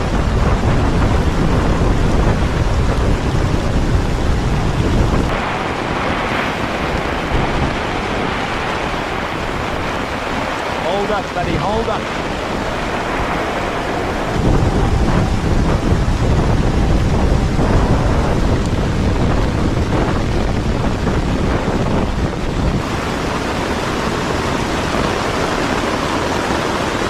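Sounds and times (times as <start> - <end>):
rain: 0.0 - 27.0
storm wind gusting over tarp: 0.0 - 27.0
wind buffeting microphone: 0.0 - 27.0.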